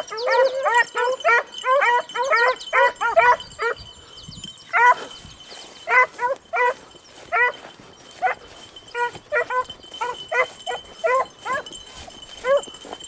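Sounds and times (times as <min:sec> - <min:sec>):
dogs baying and barking: 0:00.0 - 0:13.0.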